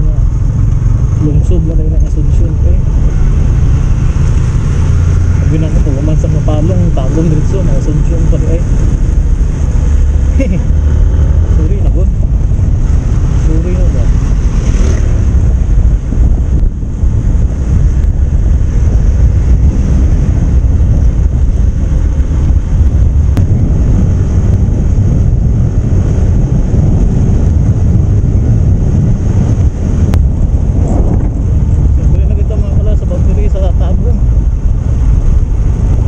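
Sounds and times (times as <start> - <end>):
motorcycle engine: 0.0 - 36.0
road noise: 0.0 - 36.0
wind buffeting microphone: 0.0 - 36.0.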